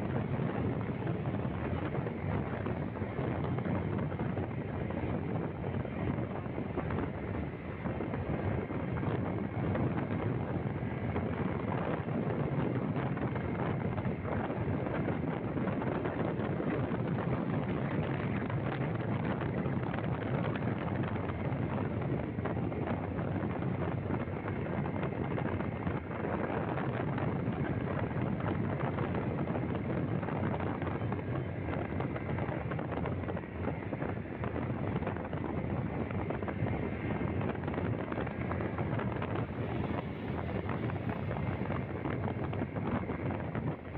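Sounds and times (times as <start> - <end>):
vehicle running on road: 0.0 - 43.9
wind buffeting microphone: 0.0 - 43.9.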